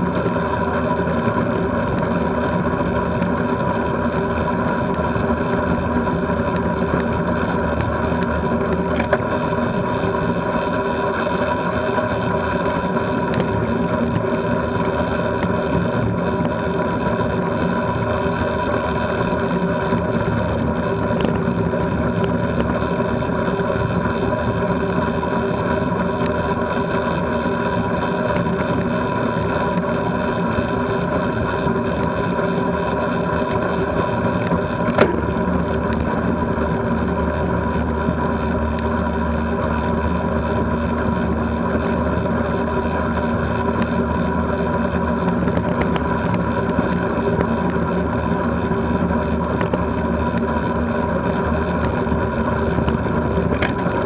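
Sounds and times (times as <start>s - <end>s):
bike tyres rolling on tarmac: 0.0s - 54.0s.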